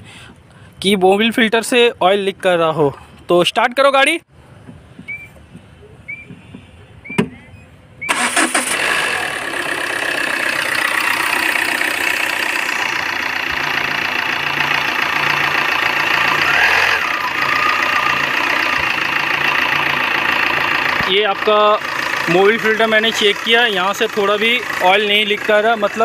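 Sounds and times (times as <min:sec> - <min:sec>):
diesel engine cranking: 0:04.7 - 0:26.0
diesel engine idling: 0:04.8 - 0:26.0.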